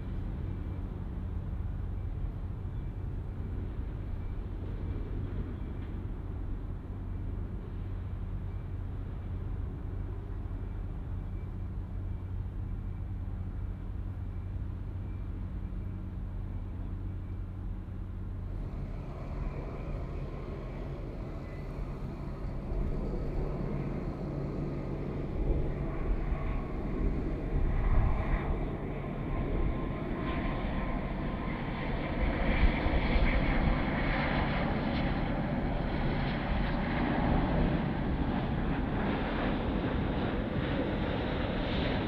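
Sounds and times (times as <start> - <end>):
jet airliner engines: 0.0 - 42.0.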